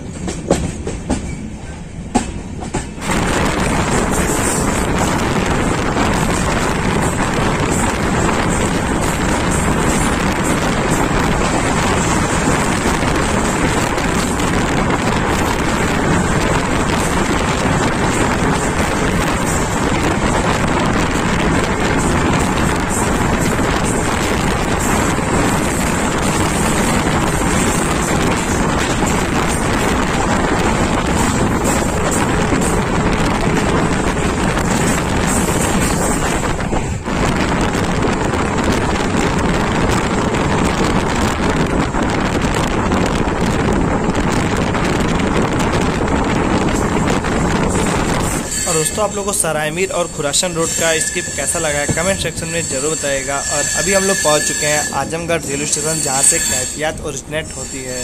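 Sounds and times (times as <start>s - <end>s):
passenger train running: 0.0s - 58.0s
wind on microphone: 1.6s - 58.0s.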